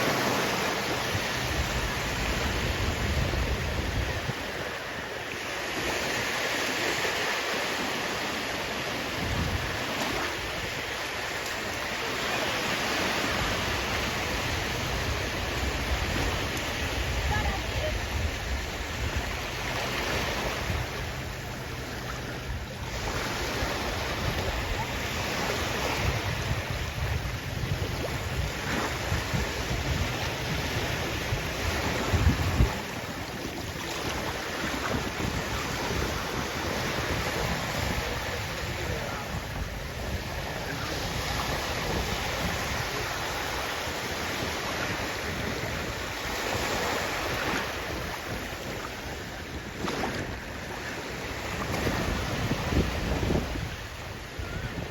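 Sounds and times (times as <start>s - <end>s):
sea waves on shore: 0.0s - 54.9s
wind rumbling on microphone: 0.0s - 54.9s.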